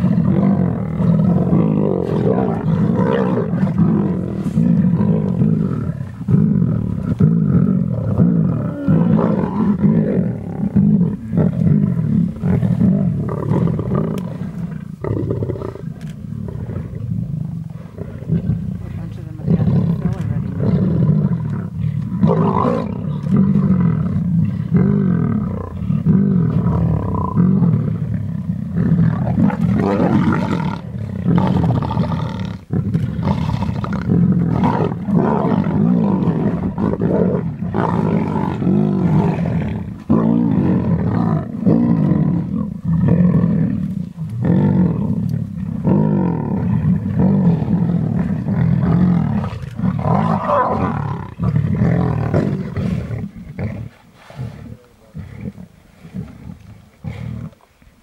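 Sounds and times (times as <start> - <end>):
lions growling: 0.0 - 57.8.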